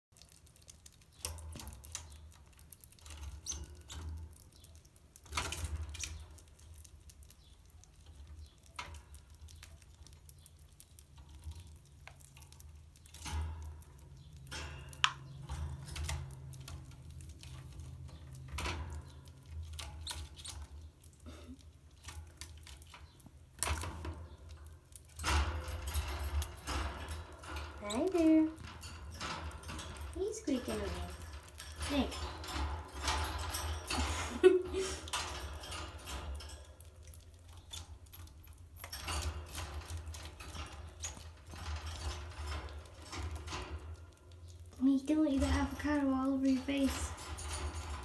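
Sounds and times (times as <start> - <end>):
squirrels nibbling food: 0.1 - 47.1.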